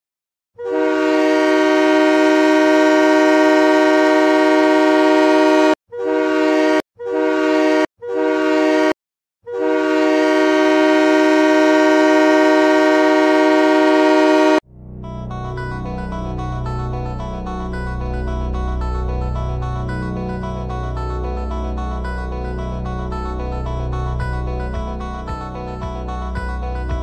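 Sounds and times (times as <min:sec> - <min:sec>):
train horn blasts: 0:00.6 - 0:27.0.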